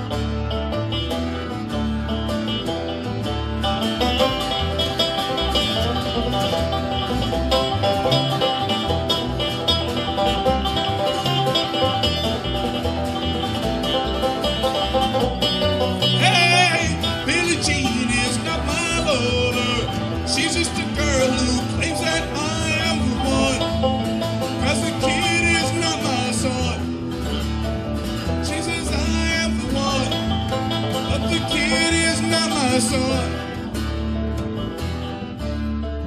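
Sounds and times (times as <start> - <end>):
picked banjo: 0.0 - 36.0
strummed acoustic guitar: 0.0 - 36.0
upright bass: 0.0 - 36.0.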